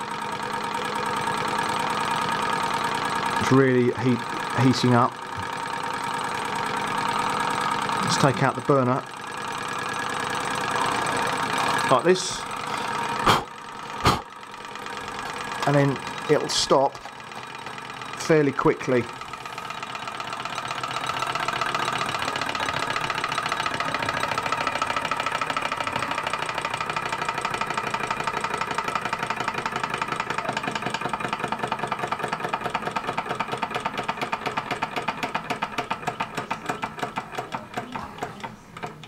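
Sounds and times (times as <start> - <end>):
stirling engine mechanical beat: 0.0 - 39.0.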